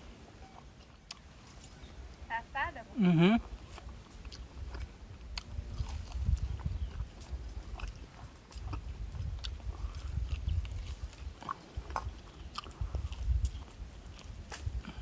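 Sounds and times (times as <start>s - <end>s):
person chewing crunchy food: 0.0s - 1.9s, 3.4s - 15.0s.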